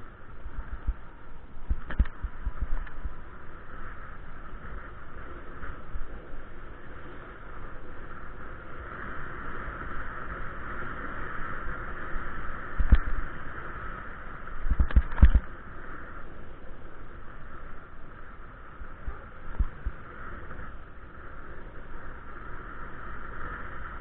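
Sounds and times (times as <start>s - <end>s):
rushing noise of bike riding: 0.0s - 24.0s.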